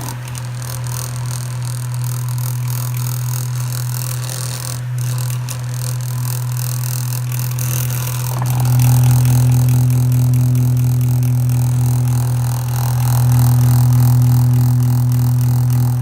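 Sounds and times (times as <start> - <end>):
fan motor humming with rattle: 0.0 - 16.0.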